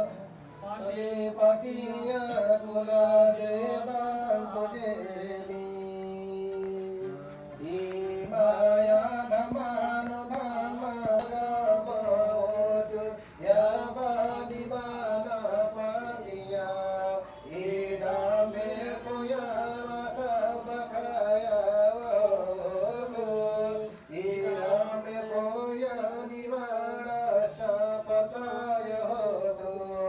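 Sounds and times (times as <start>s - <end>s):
man chanting prayer: 0.0s - 30.0s.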